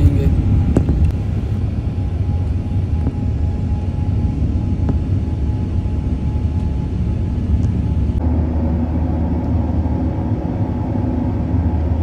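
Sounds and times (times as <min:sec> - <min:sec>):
airflow noise: 0:00.0 - 0:12.0
jet engine low rumble: 0:00.0 - 0:12.0.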